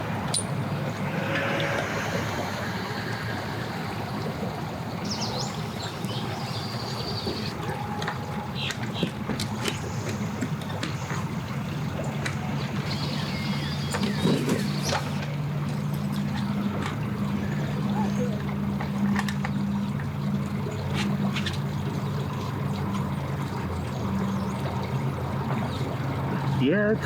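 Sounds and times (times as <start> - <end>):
boat motor idling: 0.0 - 27.0.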